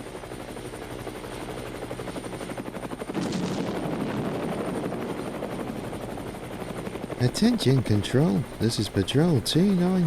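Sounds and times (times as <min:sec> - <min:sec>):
helicopter rotor blades chopping: 0:00.0 - 0:10.0.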